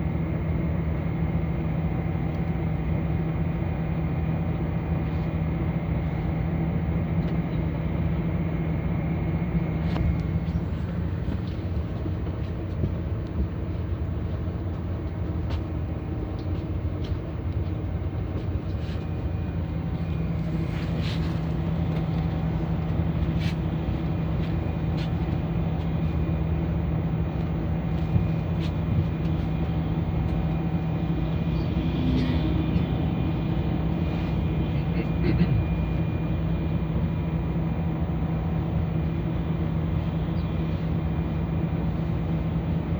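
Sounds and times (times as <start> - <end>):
bus engine humming: 0.0 - 42.9.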